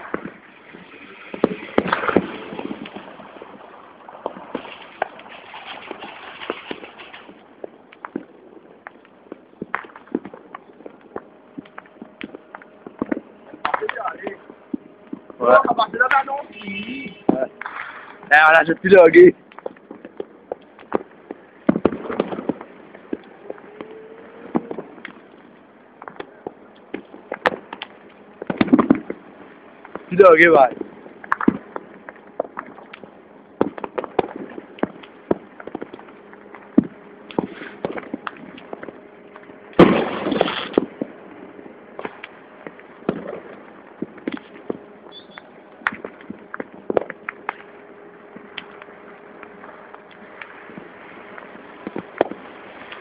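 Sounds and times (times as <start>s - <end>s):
firecrackers banging and popping: 0.0s - 53.0s
firework crackle: 0.0s - 53.0s.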